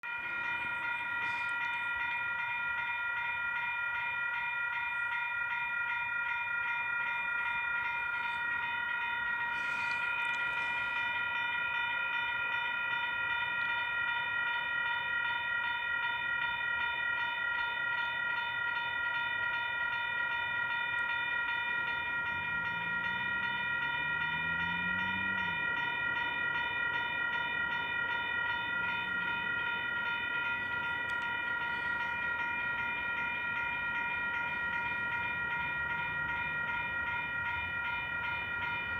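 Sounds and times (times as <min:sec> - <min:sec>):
level crossing warning bell: 0:00.0 - 0:38.9.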